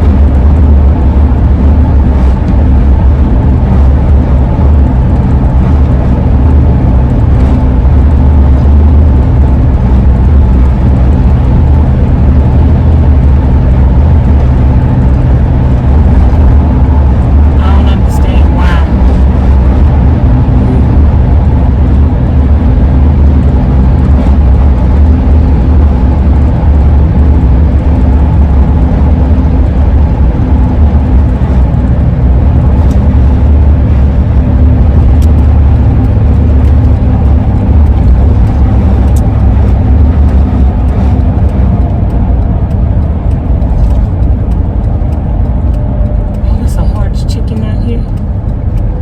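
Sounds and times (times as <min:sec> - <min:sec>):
van road and engine rumble: 0:00.0 - 0:49.0.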